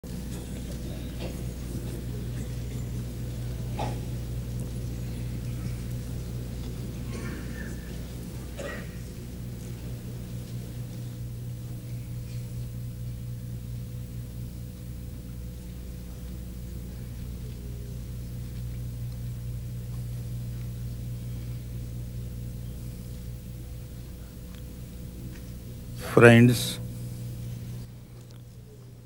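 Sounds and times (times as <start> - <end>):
low hum with faint high tone: 0.0 - 29.0.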